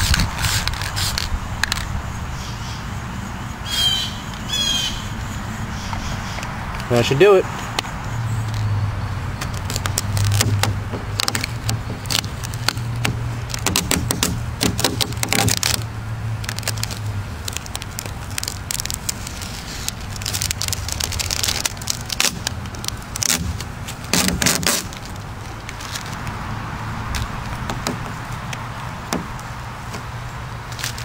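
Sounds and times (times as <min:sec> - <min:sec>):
tape crackling as peeled off: 0:00.0 - 0:02.0, 0:07.6 - 0:31.0.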